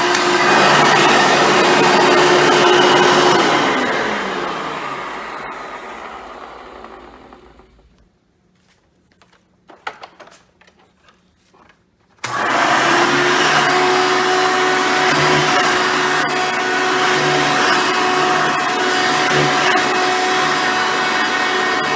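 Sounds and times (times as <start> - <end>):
vacuum cleaner motor: 0.0 - 8.0, 12.2 - 21.9.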